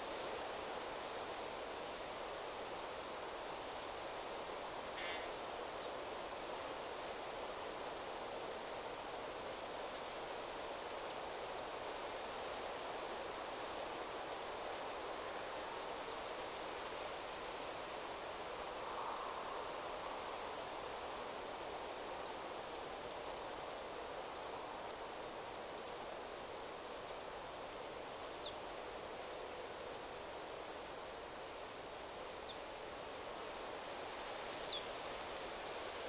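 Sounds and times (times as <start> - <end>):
wind rustling through trees: 0.0 - 36.0.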